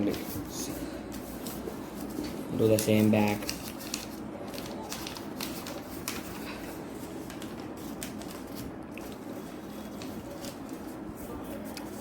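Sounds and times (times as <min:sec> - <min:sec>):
low background hum: 0:00.0 - 0:12.0
paper rustling and crackling: 0:00.0 - 0:12.0.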